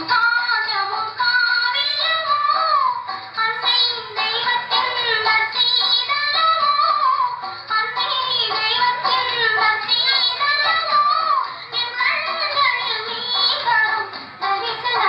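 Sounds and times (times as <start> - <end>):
musical accompaniment: 0.0 - 15.0.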